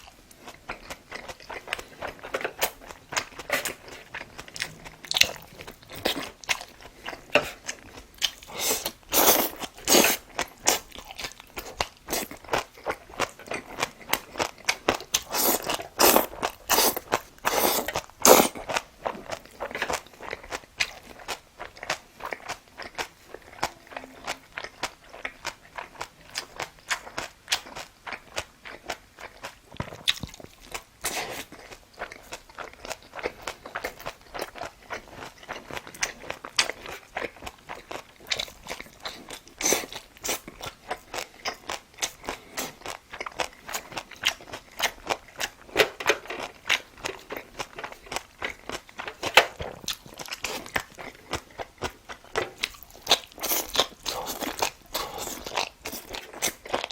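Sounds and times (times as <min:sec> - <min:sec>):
person chewing crunchy food: 0:00.0 - 0:56.9.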